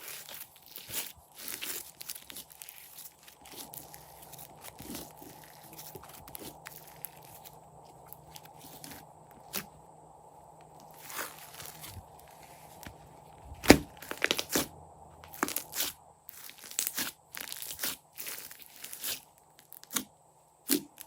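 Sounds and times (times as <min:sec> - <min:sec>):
slime crackling and crunching: 0:00.0 - 0:09.7, 0:10.8 - 0:20.0.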